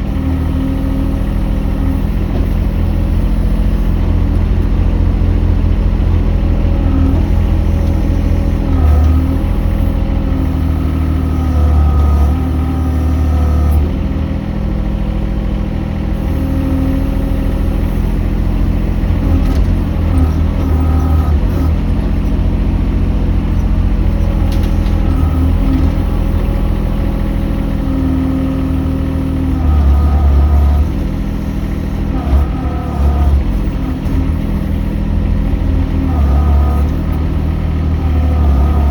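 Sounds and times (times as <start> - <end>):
mini excavator engine running: 0.0 - 38.9.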